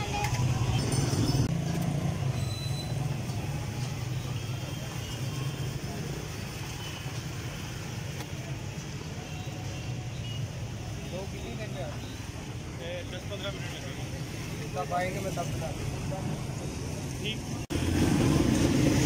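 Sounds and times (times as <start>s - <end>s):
street background noise: 0.0s - 19.0s.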